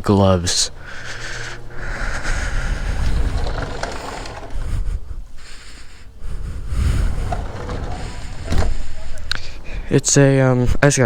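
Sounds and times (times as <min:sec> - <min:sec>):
low rumbling on microphone: 0:00.0 - 0:10.1.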